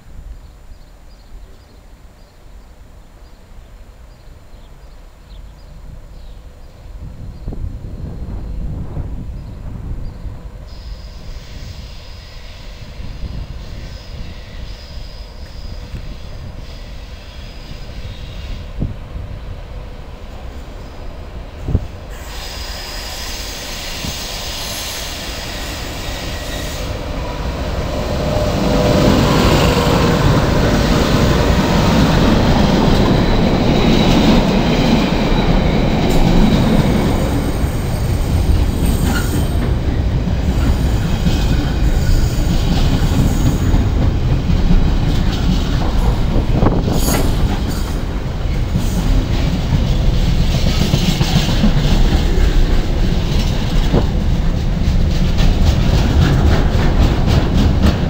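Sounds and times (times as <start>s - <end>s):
freight train passing: 4.0s - 58.0s.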